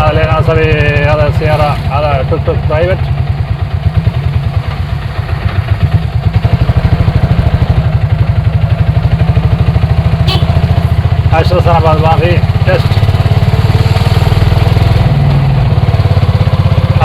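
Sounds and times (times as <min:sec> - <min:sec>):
rickshaw diesel engine idling: 0:00.0 - 0:17.0.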